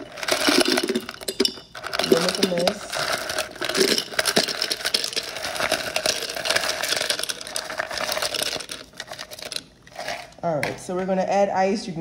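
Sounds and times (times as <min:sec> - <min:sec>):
ice cubes clattering and clinking: 0:00.0 - 0:10.4.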